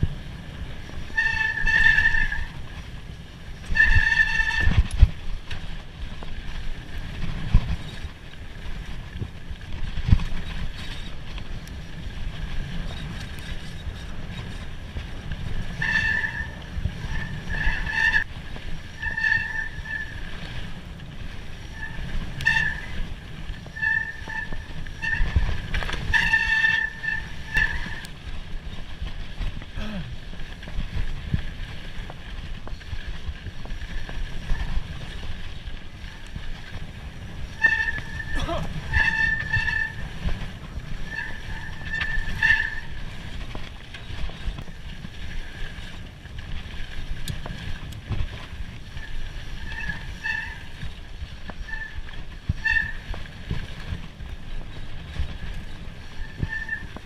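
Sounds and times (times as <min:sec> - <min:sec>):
bike tyres rumbling on dirt: 0:00.0 - 0:57.0
wind: 0:00.0 - 0:57.0.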